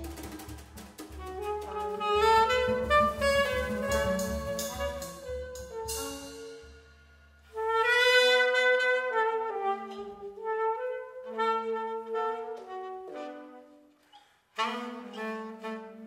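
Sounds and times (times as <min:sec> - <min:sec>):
tenor saxophone: 0:00.0 - 0:06.9, 0:07.5 - 0:16.0
trumpet playing jazz melody: 0:00.0 - 0:14.0, 0:14.6 - 0:16.0.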